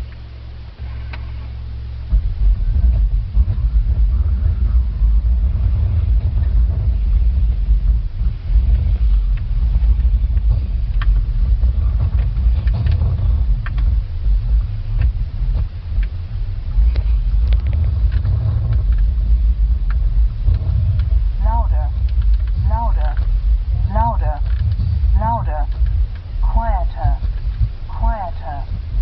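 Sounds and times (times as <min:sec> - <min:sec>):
car engine uneven rumble: 0:00.0 - 0:29.0.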